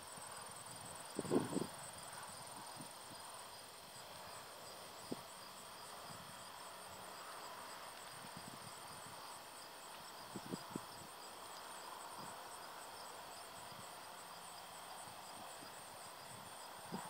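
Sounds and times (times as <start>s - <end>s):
insects chirping: 0.0s - 17.0s
outdoor background hiss: 0.0s - 17.0s.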